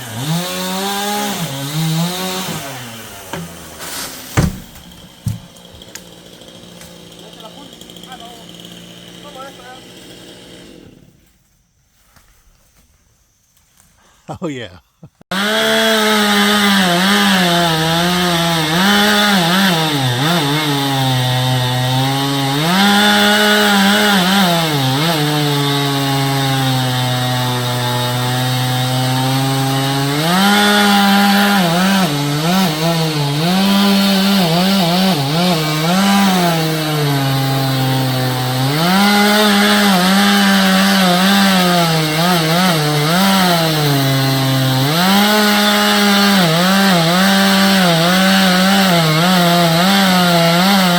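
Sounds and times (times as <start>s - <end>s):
chainsaw cutting wood: 0.0s - 11.4s, 15.3s - 50.9s.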